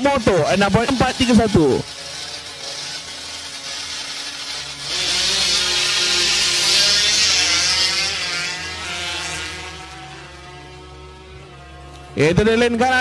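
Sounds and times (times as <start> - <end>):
motorcycle engines wailing: 0.0 - 13.0.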